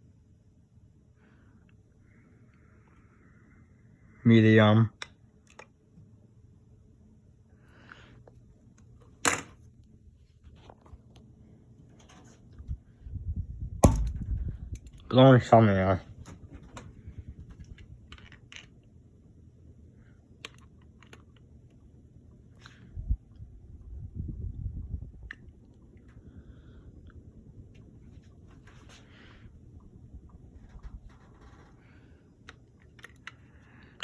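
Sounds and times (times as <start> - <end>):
ceiling fan motor hum: 0.0 - 34.0.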